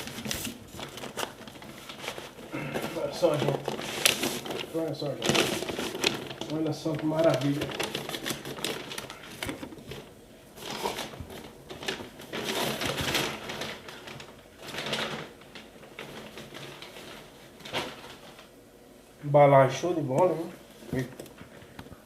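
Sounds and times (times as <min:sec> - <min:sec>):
packaging rustling and crinkling: 0:00.0 - 0:18.6.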